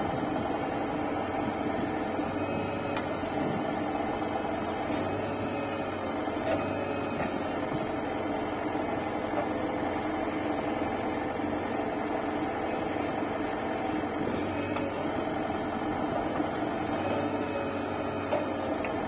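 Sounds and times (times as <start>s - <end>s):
backhoe diesel engine running: 0.0s - 19.0s.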